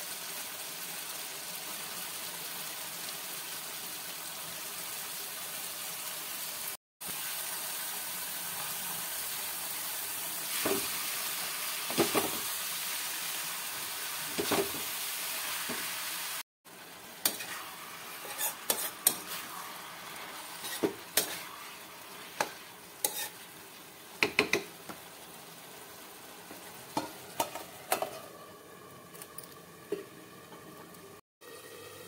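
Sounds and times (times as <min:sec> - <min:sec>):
vegetables sizzling: 0:00.0 - 0:32.0.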